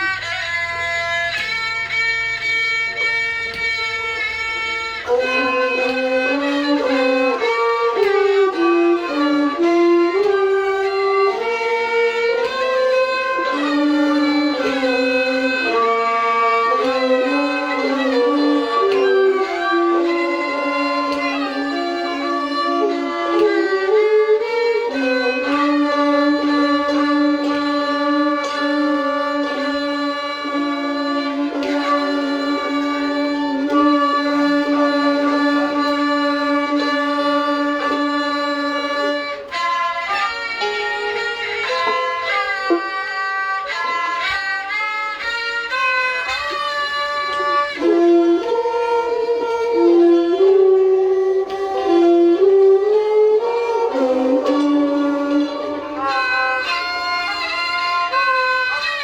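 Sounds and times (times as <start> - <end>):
bowed fiddle melody: 0.0 - 59.0.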